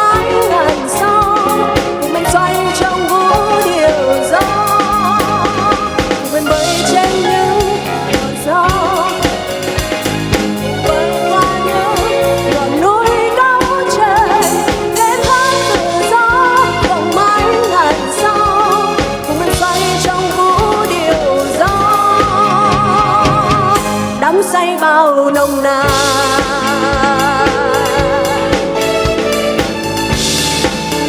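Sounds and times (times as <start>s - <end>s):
drum kit: 0.0s - 31.0s
live pop band: 0.0s - 31.0s.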